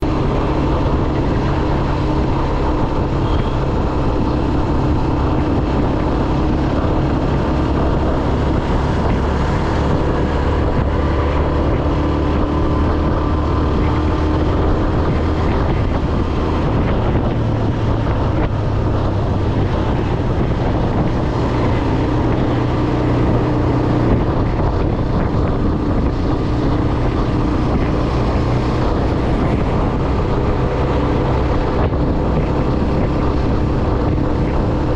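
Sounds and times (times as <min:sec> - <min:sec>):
road and wind noise: 0:00.0 - 0:34.9
vehicle engine running: 0:00.0 - 0:34.9.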